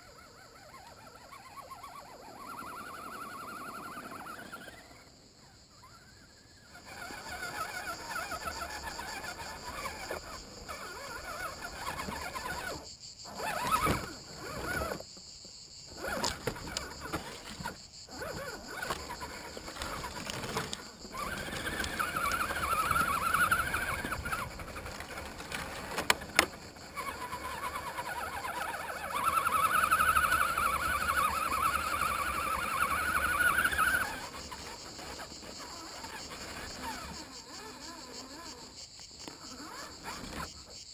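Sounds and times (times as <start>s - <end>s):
toy car electric motor whining: 0.0s - 5.2s, 5.8s - 15.1s, 15.9s - 40.9s.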